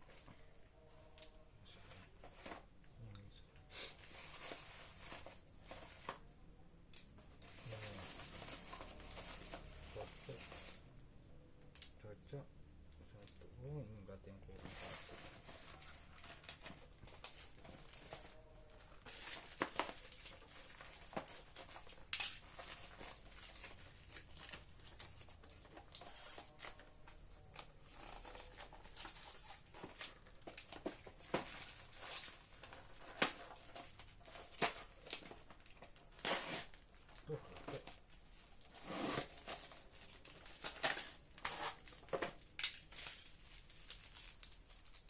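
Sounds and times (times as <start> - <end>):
rustling and crinkling: 1.6 - 2.8, 3.9 - 6.3, 7.2 - 10.9, 14.4 - 45.0.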